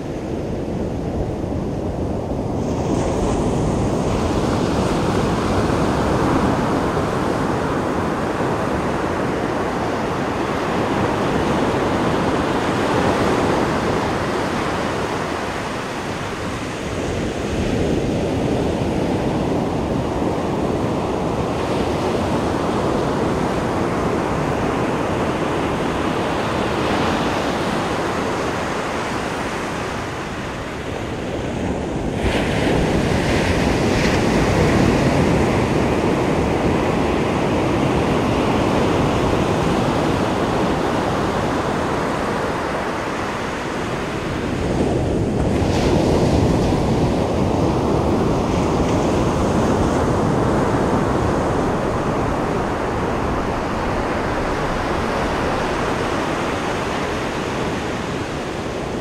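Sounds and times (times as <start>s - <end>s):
waves crashing: 0.0s - 59.0s
surf rushing: 2.2s - 59.0s.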